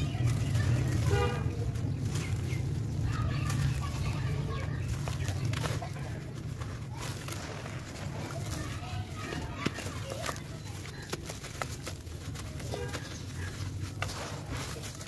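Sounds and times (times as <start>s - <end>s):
crumbs pattering into plastic tub: 0.0s - 15.0s
sand and charcoal crumbled by hand: 0.0s - 15.0s.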